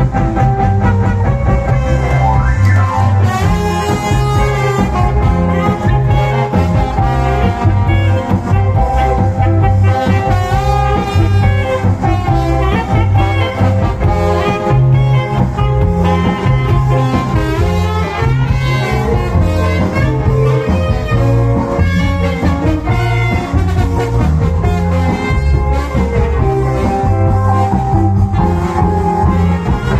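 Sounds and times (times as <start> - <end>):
loud cha-cha dance music: 0.0 - 29.9.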